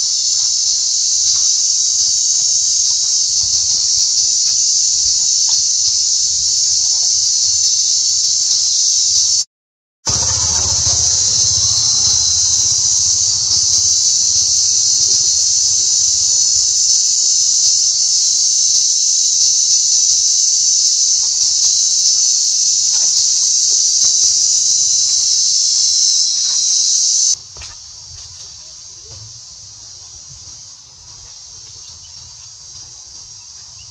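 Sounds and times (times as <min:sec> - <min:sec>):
cicadas droning: 0:00.0 - 0:09.4, 0:10.1 - 0:33.9.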